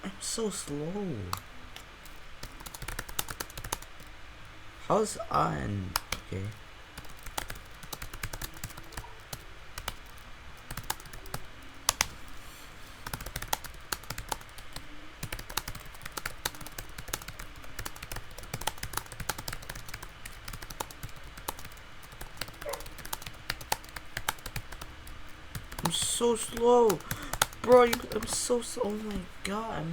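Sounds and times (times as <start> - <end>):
fast typing on computer keyboard: 1.2 - 4.2, 5.9 - 12.4, 13.0 - 29.3.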